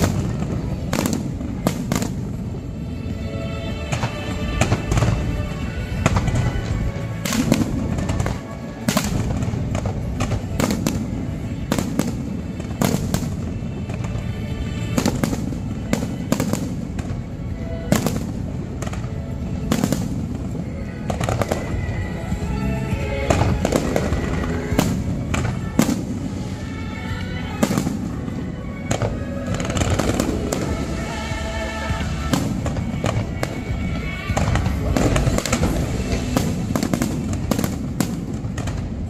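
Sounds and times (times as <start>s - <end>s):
fireworks bangs: 0.0s - 39.0s
loud music: 0.0s - 39.0s.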